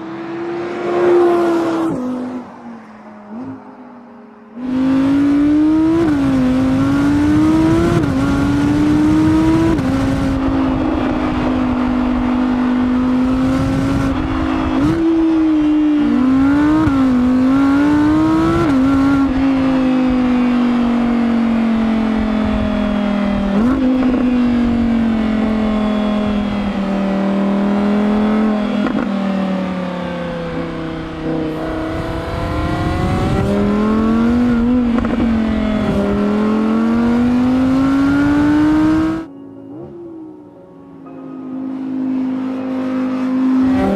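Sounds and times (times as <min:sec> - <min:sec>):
car engine accelerating through gears: 0:00.0 - 0:40.5, 0:41.7 - 0:43.9.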